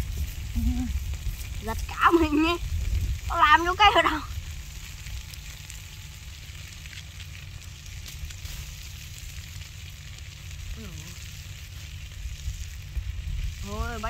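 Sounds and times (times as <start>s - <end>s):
beef sizzling in a pan: 0.0s - 14.0s
low rumble: 0.0s - 14.0s.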